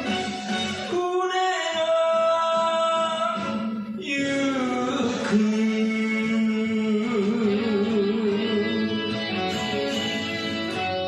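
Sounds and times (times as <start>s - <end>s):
song with long held notes: 0.0s - 11.0s.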